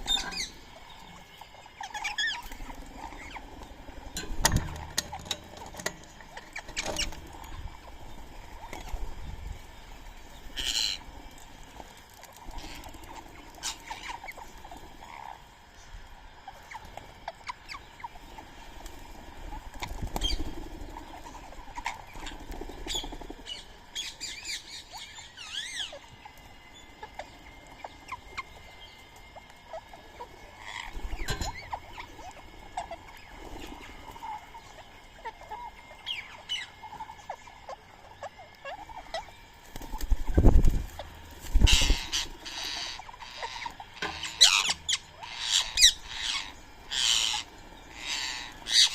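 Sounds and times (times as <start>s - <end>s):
pecking and scrabbling at grain: 0.0s - 25.0s, 25.6s - 48.9s
bird calls and chirps: 0.0s - 48.9s.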